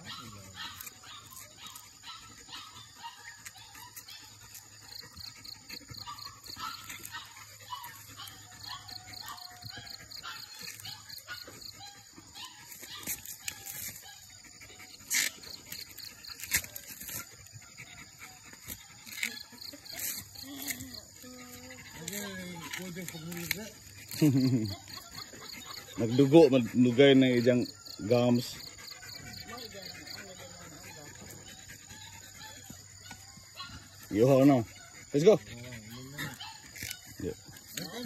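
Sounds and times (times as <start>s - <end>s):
puppy chewing coconut husk: 0.0s - 38.0s.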